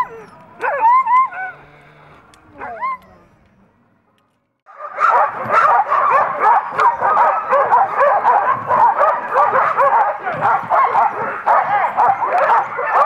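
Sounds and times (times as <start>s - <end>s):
dogs barking and yipping: 0.0s - 3.6s, 4.7s - 13.0s.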